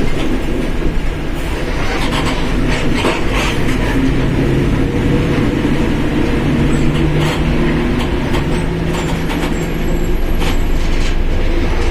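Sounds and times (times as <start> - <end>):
rattles and clicks: 0.0 - 4.5, 5.3 - 11.9
bus engine droning: 0.0 - 11.9.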